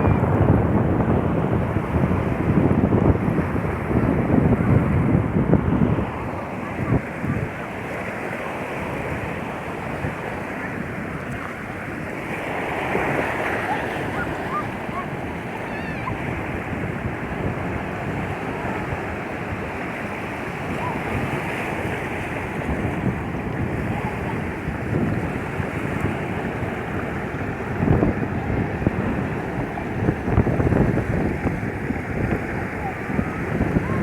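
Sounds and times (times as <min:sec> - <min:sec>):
sea waves washing onto beach: 0:00.0 - 0:34.0
wind rumbling on microphone: 0:00.0 - 0:34.0.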